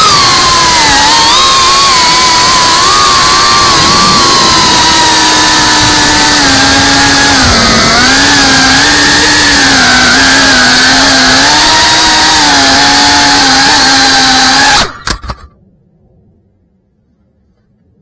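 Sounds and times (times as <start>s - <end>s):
quadcopter motors buzzing: 0.0s - 15.3s.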